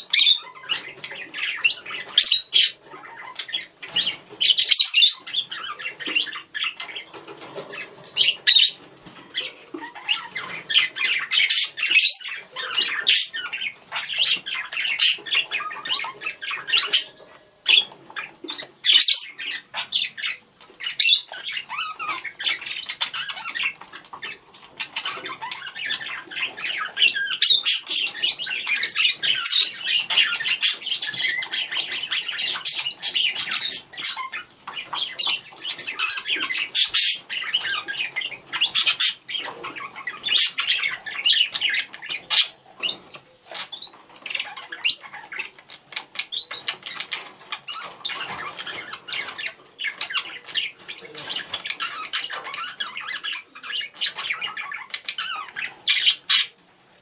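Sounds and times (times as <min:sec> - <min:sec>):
budgerigars chattering and chirping: 0:00.0 - 0:56.7.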